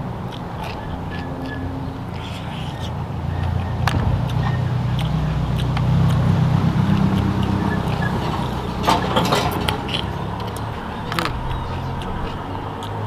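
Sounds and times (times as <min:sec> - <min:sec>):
low motor drone: 0:00.0 - 0:08.9, 0:09.6 - 0:13.0
smacking eating noises: 0:00.2 - 0:13.0.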